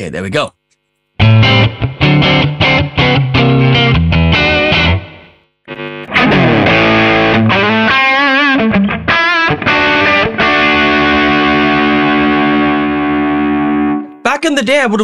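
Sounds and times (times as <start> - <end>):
electric guitar lead: 1.2 - 14.2.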